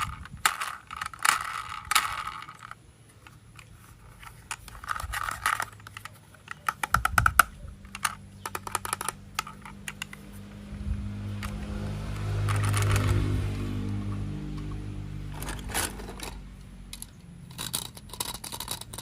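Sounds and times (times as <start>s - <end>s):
plastic toy parts clicking: 0.0s - 10.4s, 11.4s - 13.4s, 14.6s - 19.0s
low steady hum: 0.0s - 19.0s.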